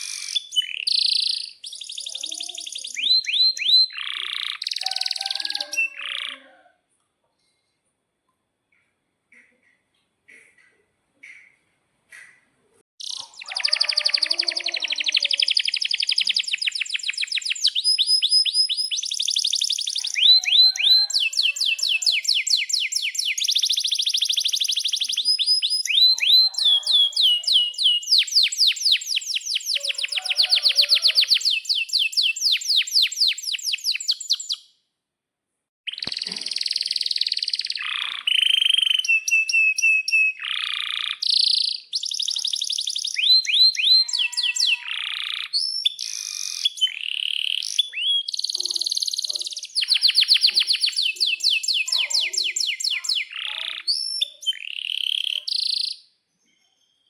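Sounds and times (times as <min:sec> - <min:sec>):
canary singing trills: 0:00.0 - 0:06.7, 0:09.3 - 0:34.7, 0:35.9 - 0:57.0.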